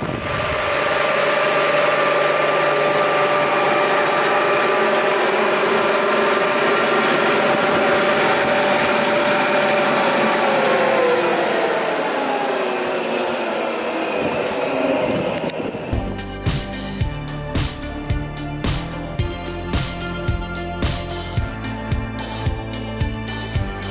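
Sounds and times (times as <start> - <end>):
belt sander running: 0.0 - 23.9.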